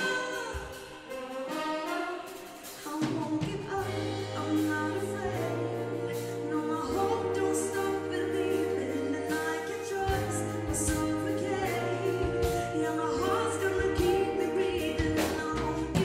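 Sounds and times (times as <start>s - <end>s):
big band with singers: 0.0s - 16.0s.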